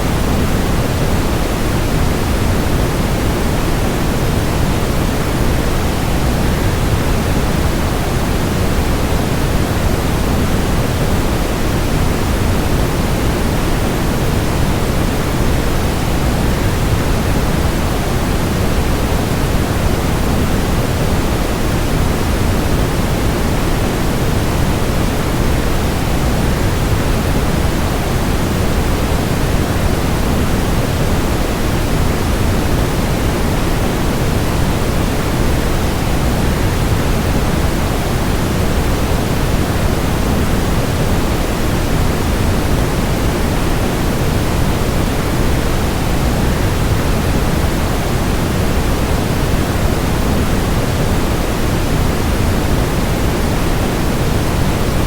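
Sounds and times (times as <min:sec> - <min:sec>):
white noise: 0:00.0 - 0:55.0.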